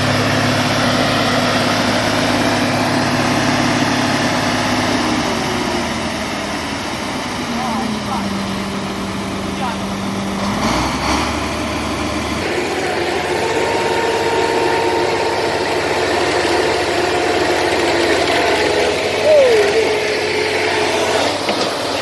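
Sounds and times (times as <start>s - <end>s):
bulldozer diesel engines running: 0.0s - 22.0s.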